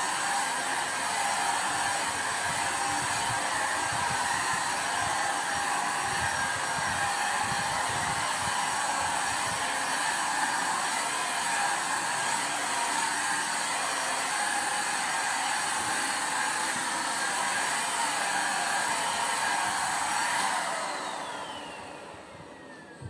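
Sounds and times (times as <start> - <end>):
vacuum cleaner running: 0.0 - 23.0
vacuum motor winding down: 0.0 - 23.0.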